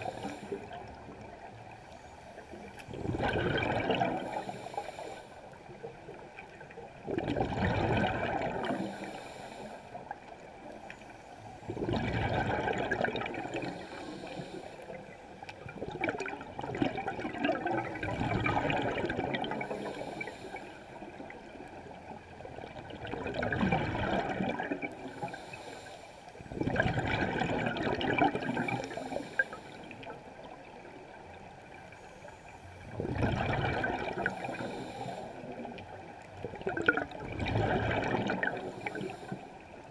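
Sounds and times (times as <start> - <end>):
underwater exhaled bubbles: 0.0 - 39.9.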